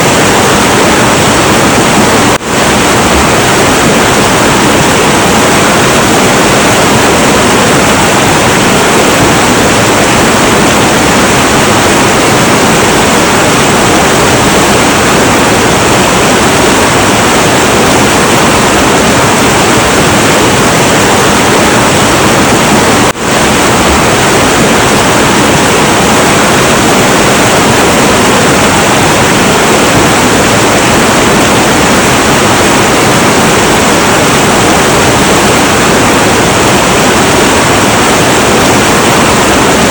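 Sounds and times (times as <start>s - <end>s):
turbulent river water rushing: 0.0s - 39.9s.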